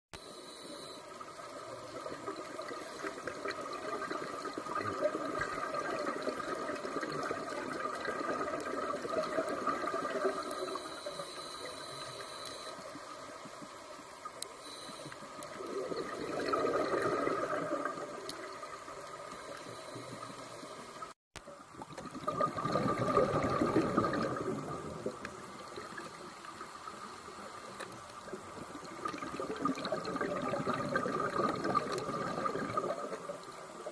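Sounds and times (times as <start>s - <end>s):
underwater bubbles rushing: 1.4s - 11.0s, 15.3s - 33.9s.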